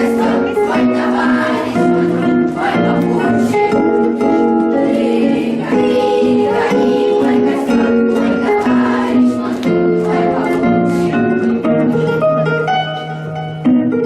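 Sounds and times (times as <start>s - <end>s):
group of voices singing: 0.0s - 12.0s
guitar: 0.0s - 14.0s.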